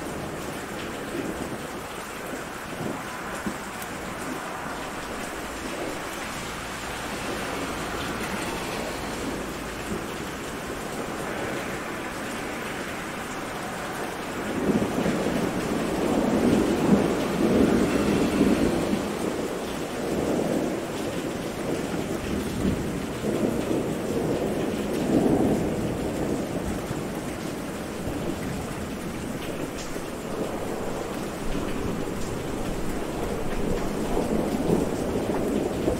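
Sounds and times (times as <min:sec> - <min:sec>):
steady rain: 0:00.0 - 0:35.9
thunder rumbling: 0:00.0 - 0:35.9.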